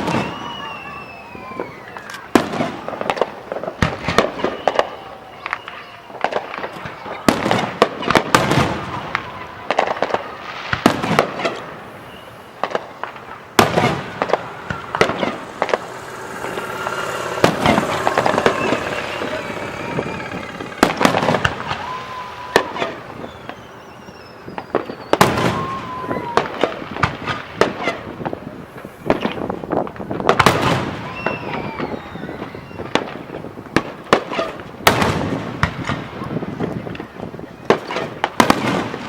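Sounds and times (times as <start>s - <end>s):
fireworks bangs and crackling: 0.0s - 39.0s
whistling firework shells: 0.0s - 39.0s.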